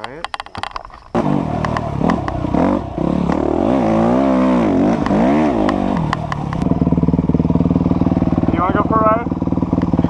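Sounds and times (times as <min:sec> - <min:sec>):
dirt bike engine revving and idling: 0:01.1 - 0:10.0.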